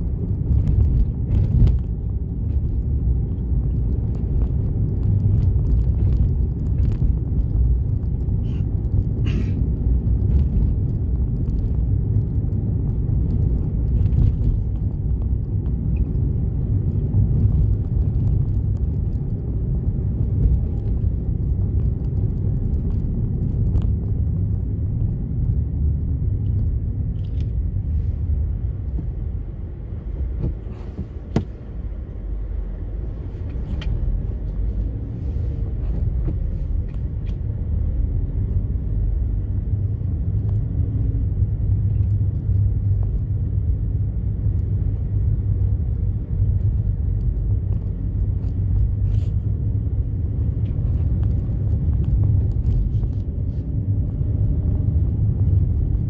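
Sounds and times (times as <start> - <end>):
engine and tyres rumbling: 0.0 - 56.0.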